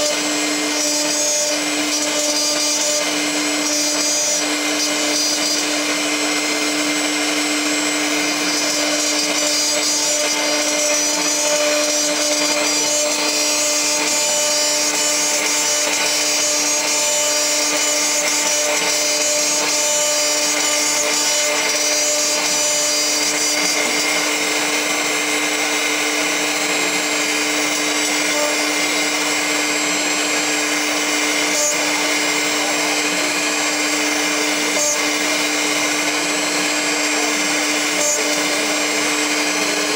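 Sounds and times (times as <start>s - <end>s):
end mill cutting metal: 0.0s - 39.9s
milling machine spindle running: 0.0s - 39.9s.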